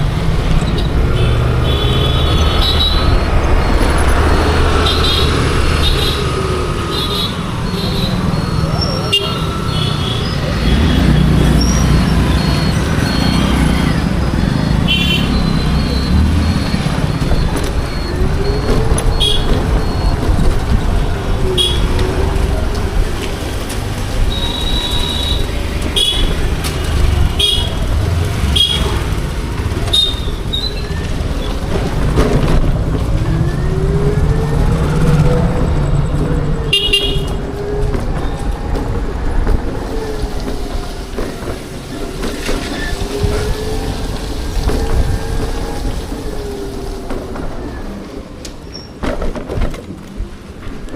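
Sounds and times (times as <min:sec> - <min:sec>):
low road rumble: 0:00.0 - 0:50.9.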